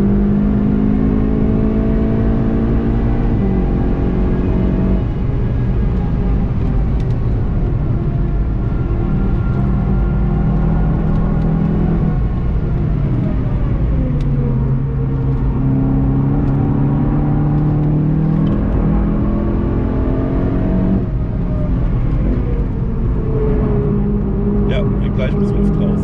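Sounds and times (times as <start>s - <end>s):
car engine accelerating: 0.0s - 26.0s
road noise: 0.0s - 26.0s.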